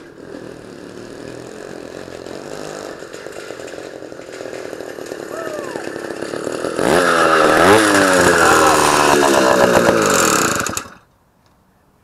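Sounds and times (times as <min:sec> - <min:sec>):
small two-stroke engine buzzing: 0:00.0 - 0:11.1.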